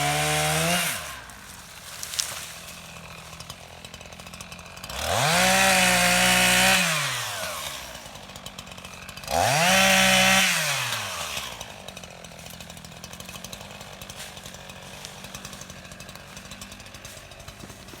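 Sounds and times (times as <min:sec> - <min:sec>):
chainsaw revving and idling: 0:00.0 - 0:18.0.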